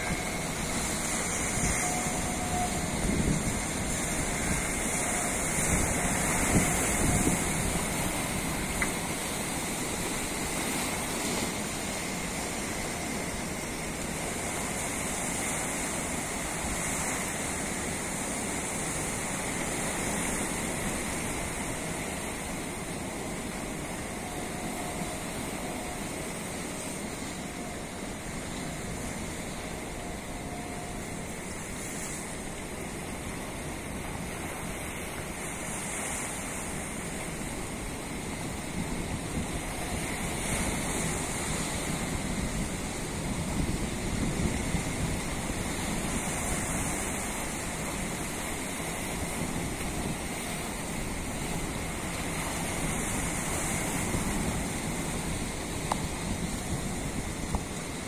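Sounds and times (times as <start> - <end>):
water rushing past hull: 0.0 - 58.0
wind on microphone: 0.0 - 58.0.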